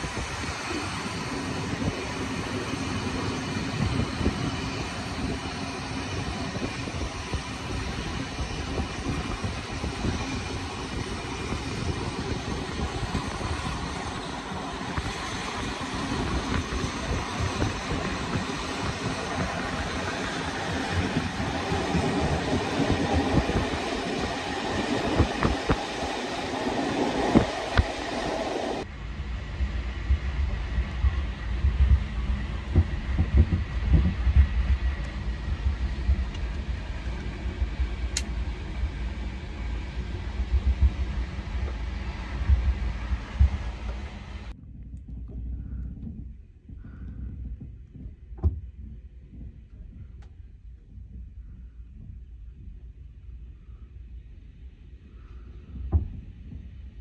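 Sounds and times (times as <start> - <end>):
train coach rumbling: 0.0 - 53.9
low hum: 0.0 - 57.0.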